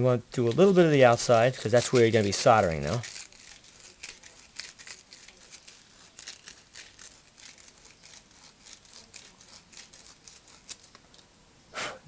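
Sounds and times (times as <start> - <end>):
sandpaper scratching copper tubing: 0.0 - 11.0.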